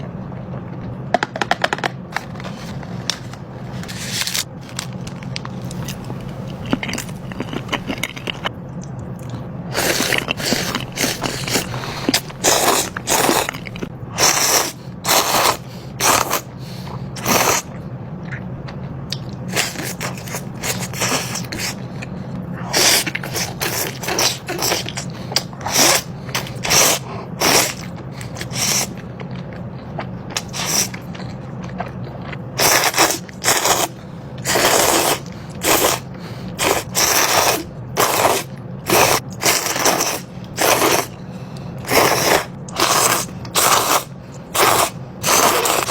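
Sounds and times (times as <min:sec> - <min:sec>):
steady low hum: 0:00.0 - 0:45.9
slurping and chewing noodles: 0:02.2 - 0:18.5, 0:19.1 - 0:45.9.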